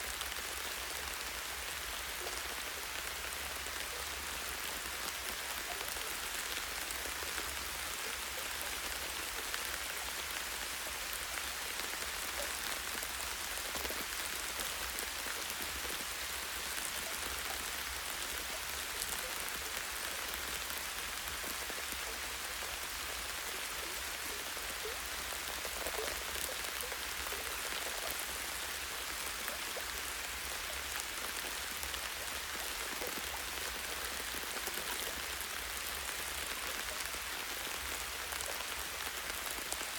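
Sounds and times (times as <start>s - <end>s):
light rain on leaves: 0.0s - 39.9s.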